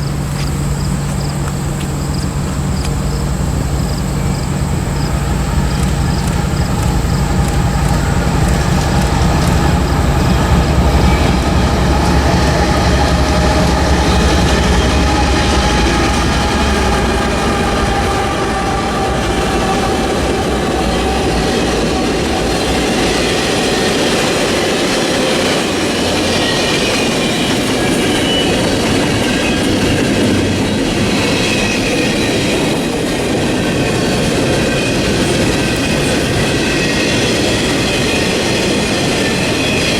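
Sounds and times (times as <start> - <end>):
diesel locomotive rumble: 0.0 - 39.9
freight cars rolling past: 0.0 - 39.9
high wheel squeal: 0.0 - 39.9.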